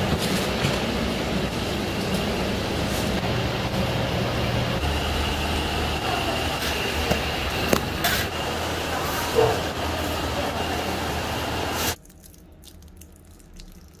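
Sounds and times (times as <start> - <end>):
steady machine noise: 0.0 - 12.0.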